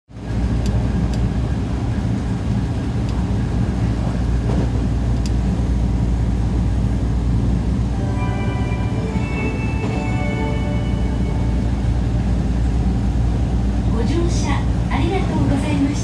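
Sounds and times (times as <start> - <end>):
train wheels rumbling on rails: 0.1 - 8.1, 8.7 - 16.0.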